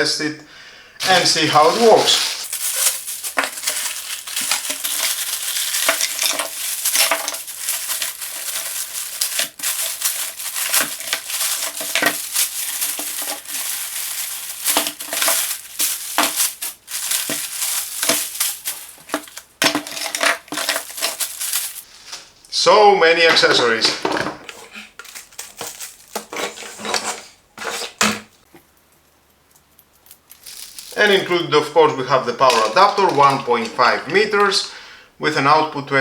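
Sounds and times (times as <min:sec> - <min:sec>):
plastic packaging crinkling: 0:01.0 - 0:22.1, 0:23.3 - 0:26.9, 0:29.8 - 0:34.6.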